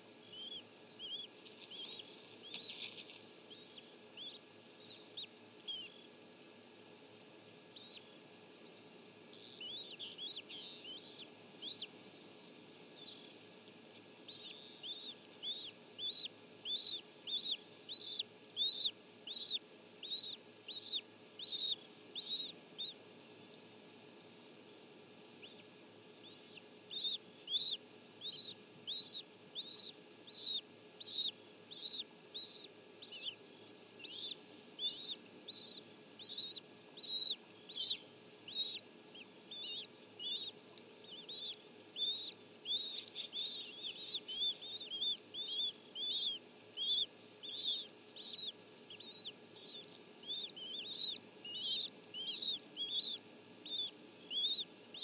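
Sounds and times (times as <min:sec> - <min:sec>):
eagle chicks peeping: 0:00.0 - 0:23.1, 0:25.4 - 0:55.0.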